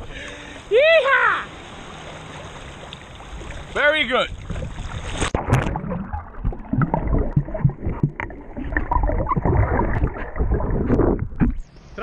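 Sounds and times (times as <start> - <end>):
muffled underwater churning: 1.6 - 11.9.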